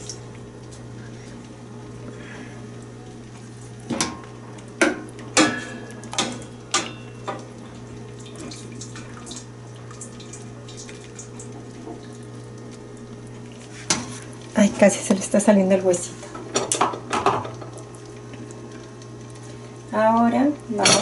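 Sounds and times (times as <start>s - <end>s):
broth splashing and dripping: 0.0s - 20.8s.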